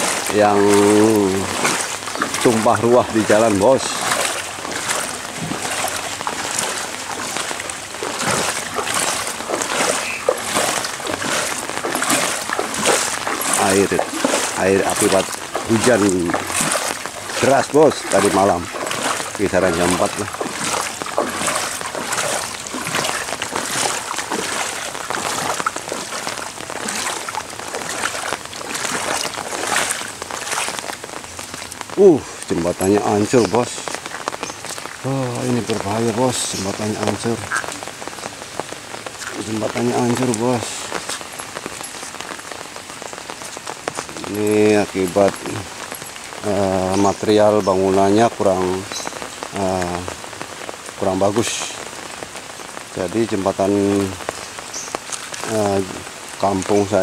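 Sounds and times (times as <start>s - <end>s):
footsteps wading through water: 0.0s - 51.2s, 51.8s - 57.0s.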